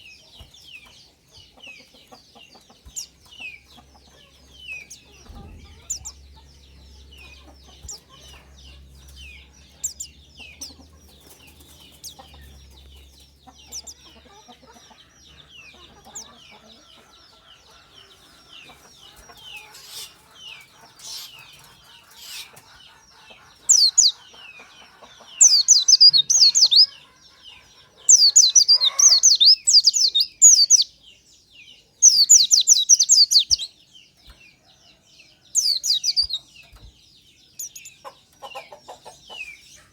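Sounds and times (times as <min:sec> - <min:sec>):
bird chirping and trilling: 0:01.6 - 0:31.0, 0:32.0 - 0:33.8, 0:35.5 - 0:36.9, 0:37.5 - 0:39.8.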